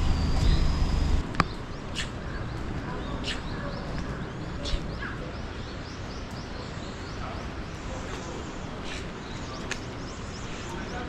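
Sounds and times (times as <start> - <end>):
outdoor background hum: 0.0 - 11.0
small birds chirping: 0.0 - 11.0.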